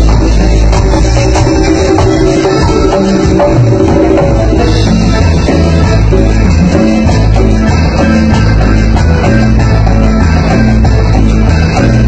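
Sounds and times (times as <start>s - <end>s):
guitar: 0.0s - 12.0s
hand drums: 0.0s - 12.0s
live band playing: 0.0s - 12.0s.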